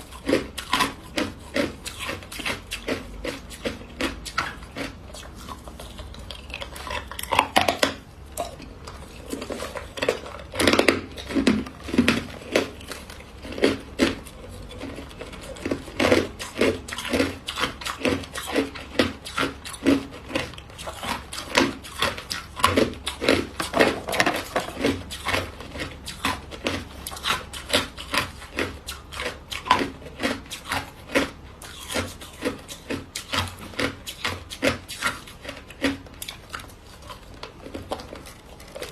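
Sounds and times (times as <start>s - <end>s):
ice crunching being chewed: 0.0s - 38.9s.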